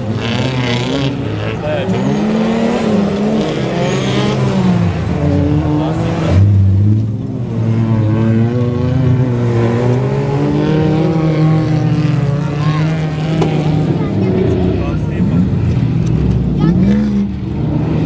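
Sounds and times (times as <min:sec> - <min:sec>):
off-road vehicle engines revving: 0:00.0 - 0:18.0.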